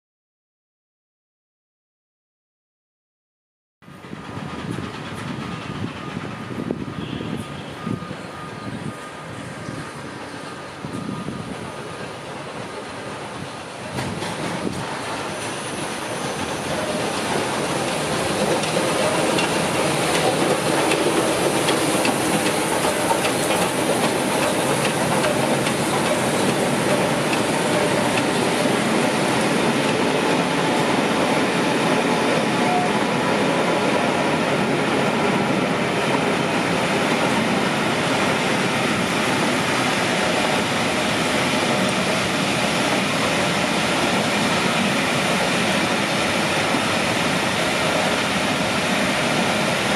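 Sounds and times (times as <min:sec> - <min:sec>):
train wheels rumbling: 0:03.8 - 0:49.9
clickety-clack over rail joints: 0:03.9 - 0:08.3, 0:09.9 - 0:49.9.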